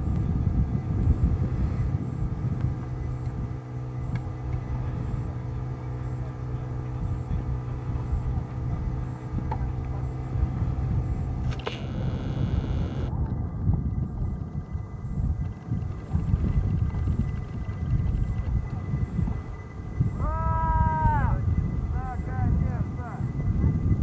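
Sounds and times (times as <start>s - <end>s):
engine humming steadily: 0.0s - 24.0s.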